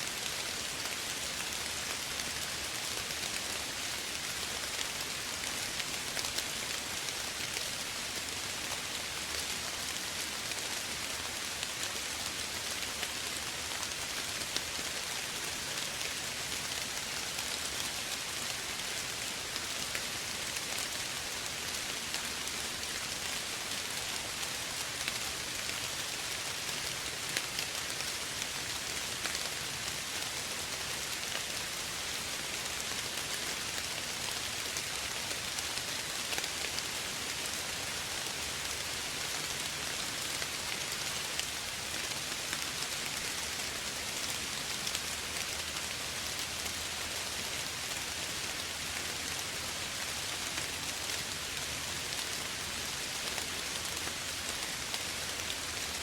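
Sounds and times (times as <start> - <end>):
gentle rain hissing: 0.0 - 56.0
raindrops pattering on a surface: 0.1 - 56.0.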